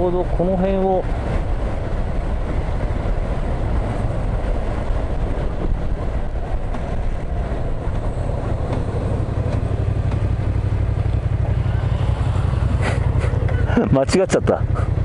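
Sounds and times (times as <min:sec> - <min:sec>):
wind rushing: 0:00.0 - 0:13.7
motorcycle engine rumbling: 0:00.0 - 0:15.0.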